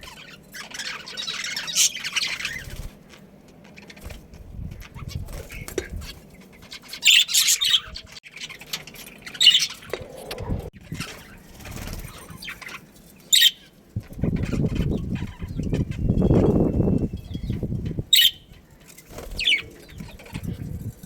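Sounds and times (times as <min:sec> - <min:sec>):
birds chirping and squawking: 0:00.0 - 0:21.0.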